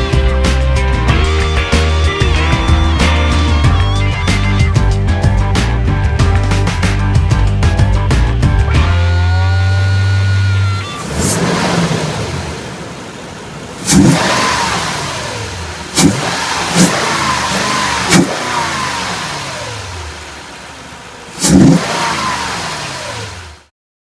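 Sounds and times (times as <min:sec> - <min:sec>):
engine revving on throttle blips: 0:00.0 - 0:23.7.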